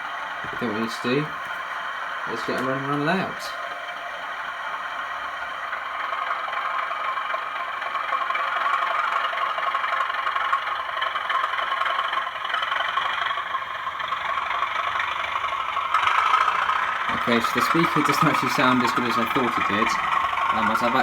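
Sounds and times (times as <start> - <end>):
tinny model locomotive diesel engine: 0.0 - 21.0.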